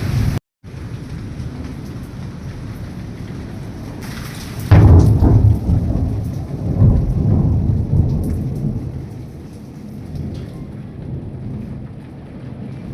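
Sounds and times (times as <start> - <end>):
heavy rain hissing: 0.0 - 12.9
rolling thunder: 0.0 - 12.9.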